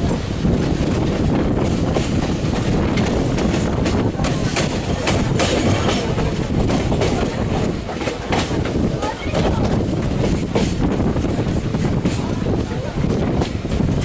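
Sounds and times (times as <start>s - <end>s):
train wheels rumbling on rails: 0.0s - 14.0s
track clicks and clatter: 0.1s - 14.0s.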